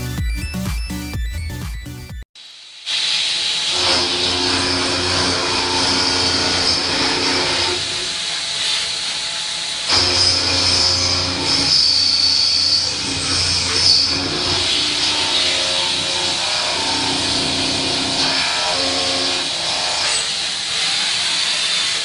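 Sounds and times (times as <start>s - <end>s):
milling cutter cutting steel: 2.9s - 22.0s.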